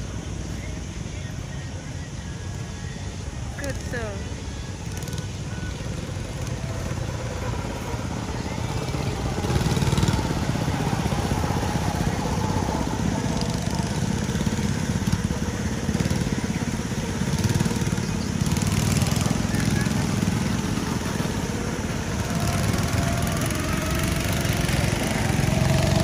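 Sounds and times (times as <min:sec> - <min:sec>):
go-kart engines buzzing: 0:00.0 - 0:26.0.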